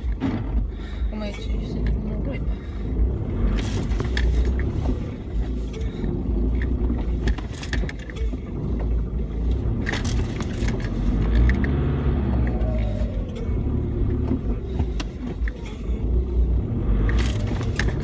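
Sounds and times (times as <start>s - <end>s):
knocks and rattles: 0.0s - 2.1s, 3.3s - 15.8s
vehicle engine under load: 0.0s - 18.0s.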